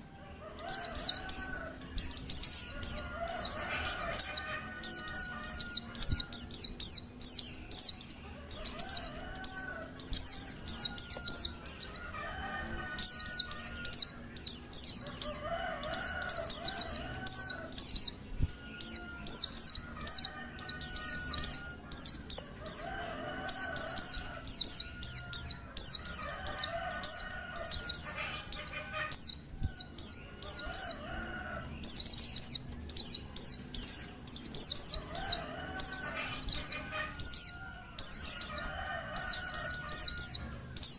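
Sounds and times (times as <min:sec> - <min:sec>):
fainter lower bird calls: 0:00.0 - 0:40.9.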